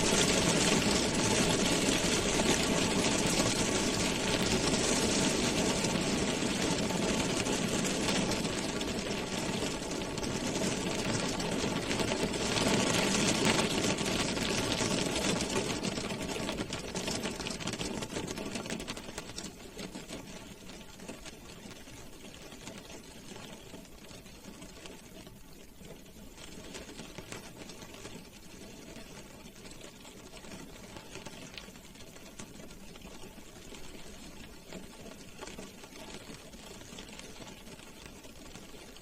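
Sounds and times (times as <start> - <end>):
rain drumming on car roof: 0.0 - 39.0.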